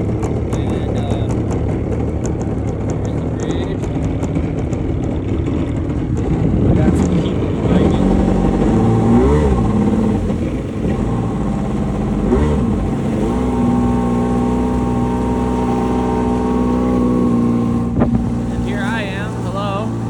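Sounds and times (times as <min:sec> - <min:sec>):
jet ski engine revving: 0:00.0 - 0:20.0.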